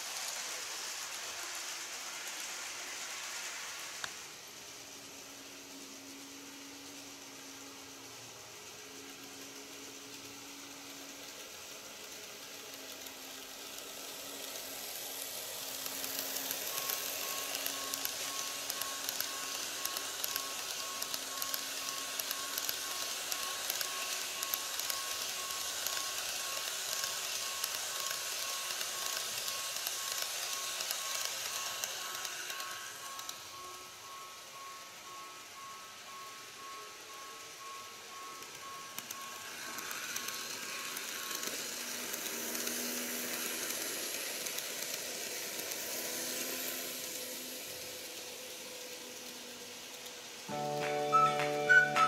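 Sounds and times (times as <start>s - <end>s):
model train rolling on track: 0.0s - 52.0s.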